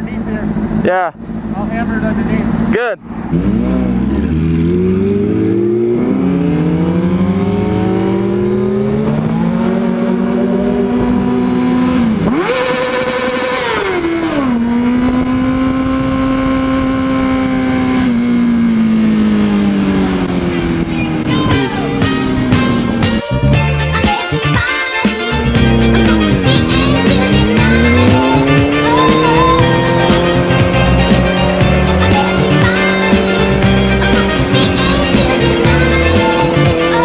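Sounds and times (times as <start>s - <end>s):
high-revving engine: 0.0s - 37.0s.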